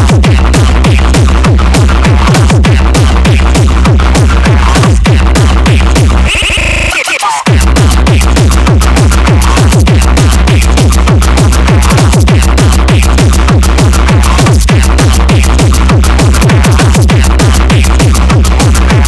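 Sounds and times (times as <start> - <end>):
techno kick-drum beat: 0.0 - 19.0.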